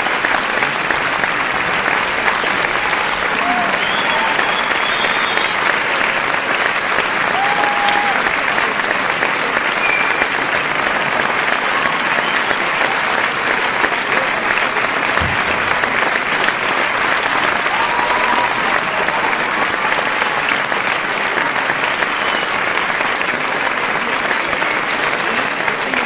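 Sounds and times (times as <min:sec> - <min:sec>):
crowd applause: 0:00.0 - 0:26.0.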